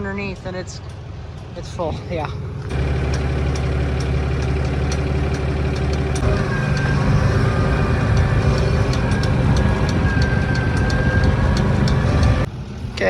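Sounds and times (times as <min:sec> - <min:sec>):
farm vehicle engine running: 0:00.0 - 0:13.0.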